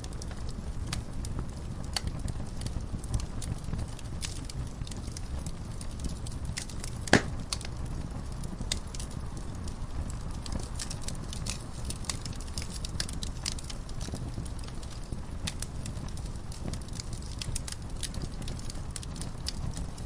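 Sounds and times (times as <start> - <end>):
wood fire crackling in fireplace: 0.0 - 20.0.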